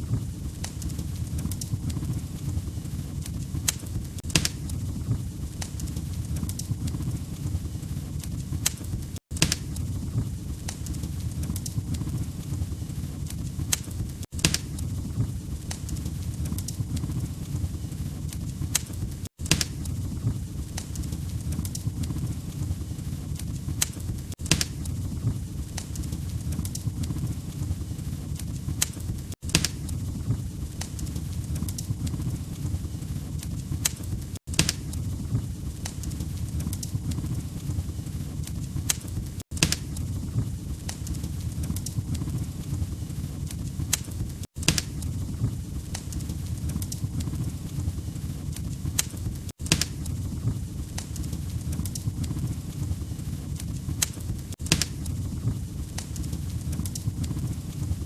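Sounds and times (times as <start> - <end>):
burning logs rumbling: 0.0 - 58.0
fire popping and snapping: 0.0 - 58.0.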